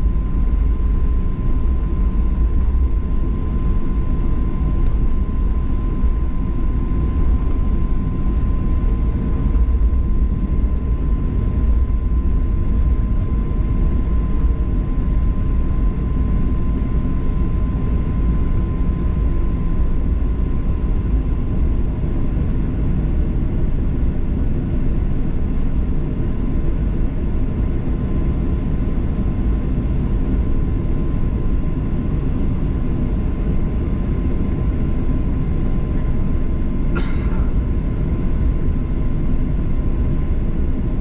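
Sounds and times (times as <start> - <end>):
airliner cabin rumble: 0.0 - 41.0
faint steady whine: 0.0 - 41.0.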